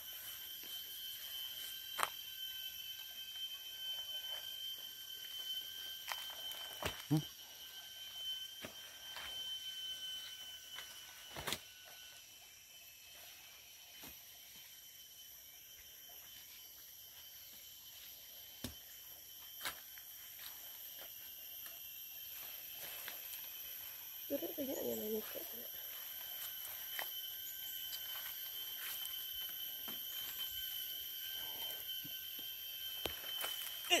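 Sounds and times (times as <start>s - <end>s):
high insect drone: 0.0s - 34.0s.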